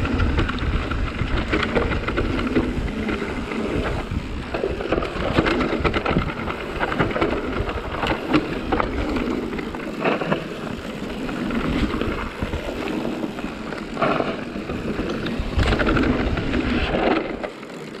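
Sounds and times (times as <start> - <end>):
wind on microphone: 0.0 - 17.5
bike rattling and knocking: 0.0 - 18.0
tyres rolling on dirt: 0.0 - 18.0.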